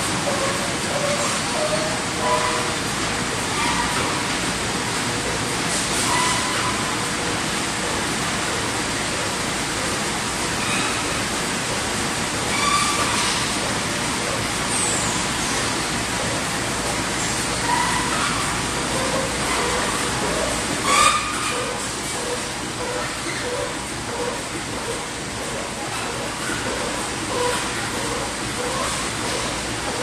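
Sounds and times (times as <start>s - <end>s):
printing machine running: 0.0s - 30.0s.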